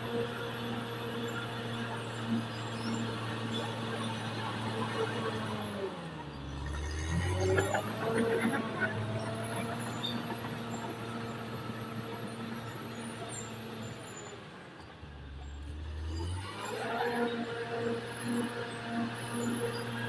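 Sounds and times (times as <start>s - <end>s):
bulldozer diesel engine under load: 0.0s - 20.0s.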